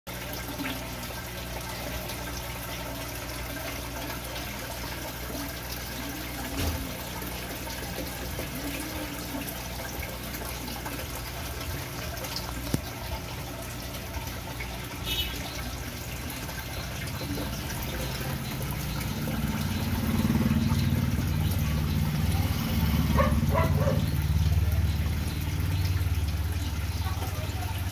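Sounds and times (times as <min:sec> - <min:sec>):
aquarium water bubbling: 0:00.1 - 0:27.9.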